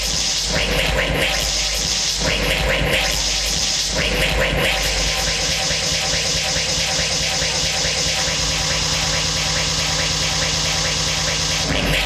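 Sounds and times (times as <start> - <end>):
dance music with buzzing beat: 0.0 - 12.0.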